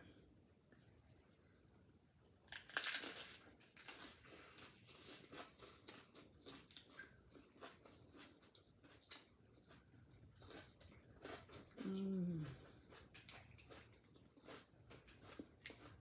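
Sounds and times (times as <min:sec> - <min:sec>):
crunchy lettuce chewing: 0:02.5 - 0:16.0.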